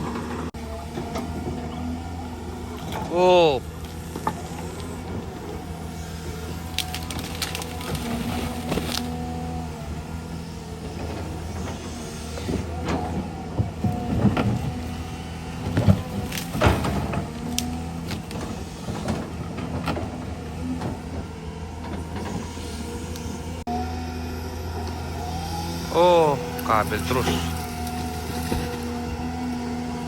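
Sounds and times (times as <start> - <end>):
diesel engine hum: 0.0 - 30.0
hydraulic whine: 0.0 - 30.0.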